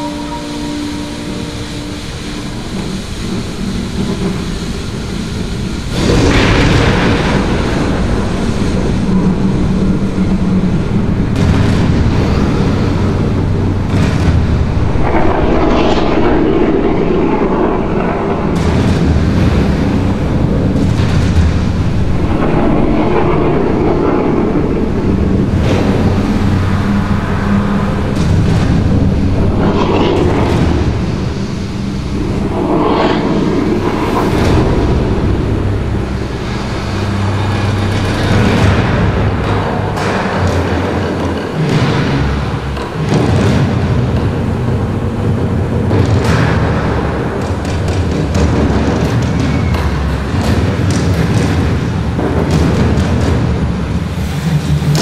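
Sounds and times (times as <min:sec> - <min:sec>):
water show soundtrack over loudspeakers: 0:00.0 - 0:55.0
wind buffeting microphone: 0:00.0 - 0:55.0.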